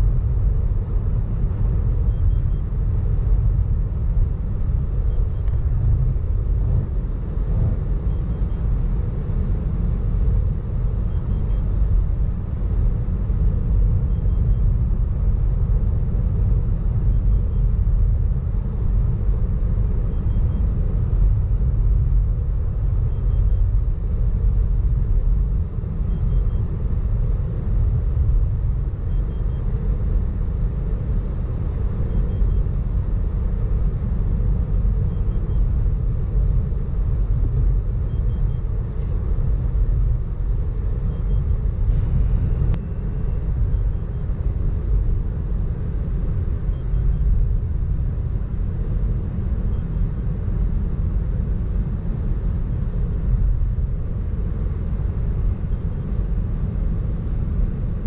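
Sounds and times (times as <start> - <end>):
car cabin highway rumble: 0.0 - 58.0.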